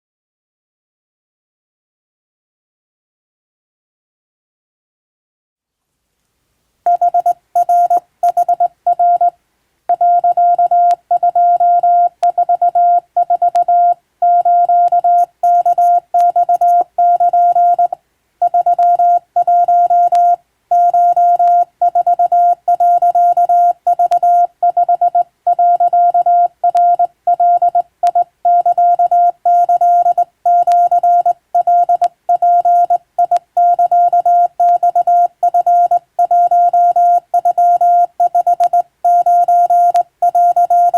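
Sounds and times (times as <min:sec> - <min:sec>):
morse code beeps: 0:06.9 - 0:09.3, 0:09.9 - 0:40.9.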